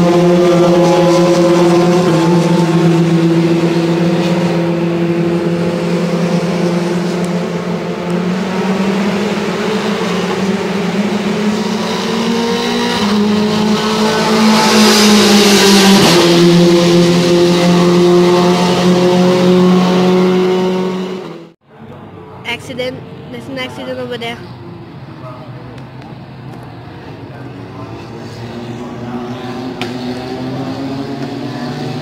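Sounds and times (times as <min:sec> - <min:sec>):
race car engine passing: 0:00.0 - 0:21.6, 0:26.2 - 0:32.0.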